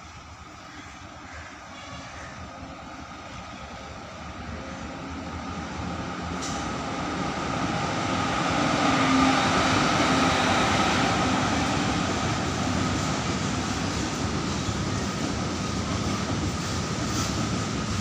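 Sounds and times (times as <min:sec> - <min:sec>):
goods train passing: 0:00.0 - 0:18.0.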